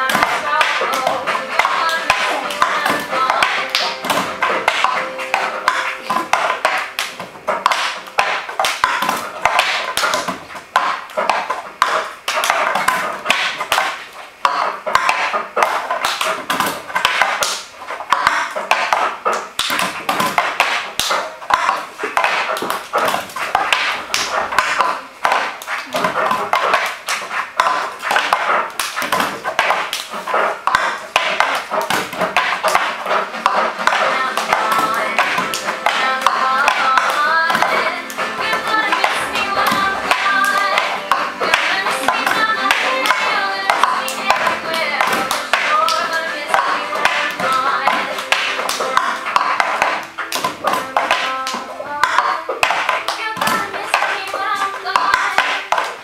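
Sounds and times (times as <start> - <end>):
plastic cups tapping on wood: 0.0 - 56.0.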